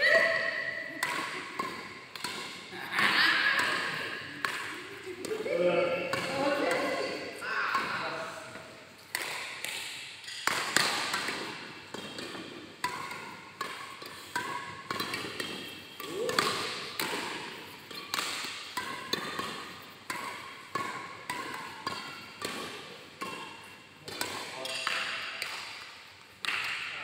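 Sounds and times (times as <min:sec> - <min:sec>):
racket hitting shuttlecock: 0:00.0 - 0:27.0.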